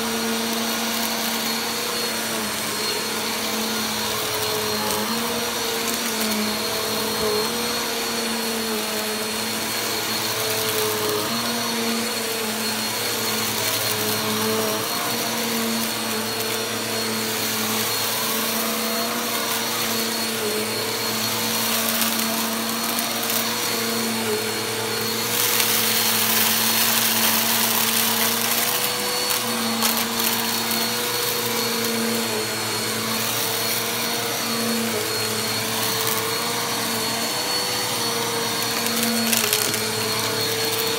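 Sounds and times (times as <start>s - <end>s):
vacuum cleaner running over carpet: 0.0s - 40.9s.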